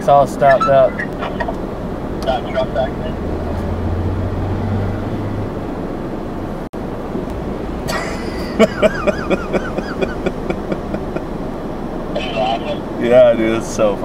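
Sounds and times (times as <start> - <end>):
low engine hum: 0.0 - 14.0
road traffic: 0.0 - 14.0.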